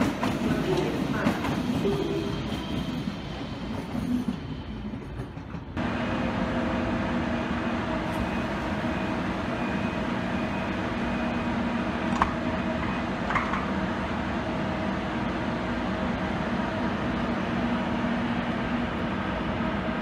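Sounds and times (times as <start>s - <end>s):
electric train hum: 0.0s - 20.0s
train rolling noise: 0.0s - 20.0s.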